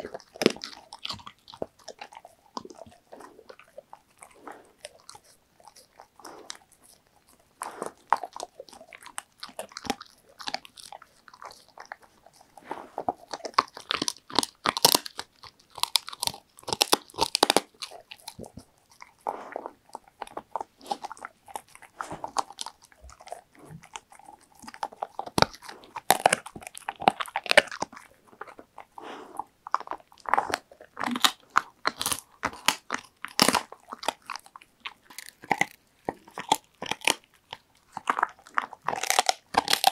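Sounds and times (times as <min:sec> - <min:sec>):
dog chewing crunchy treat: 0:00.0 - 0:39.9.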